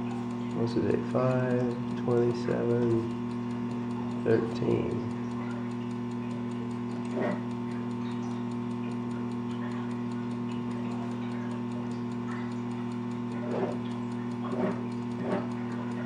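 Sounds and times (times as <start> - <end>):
electrical equipment hum: 0.0 - 16.0
faint regular ticking: 0.0 - 16.0.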